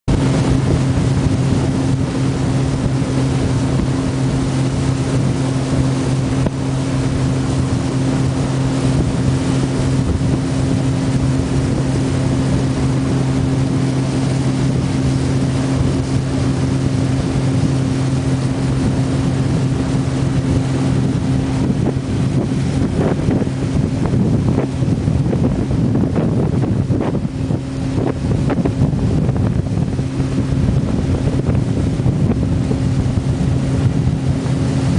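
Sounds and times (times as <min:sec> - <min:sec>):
outboard motor droning: 0:00.0 - 0:34.9
wind buffeting microphone: 0:00.1 - 0:34.9.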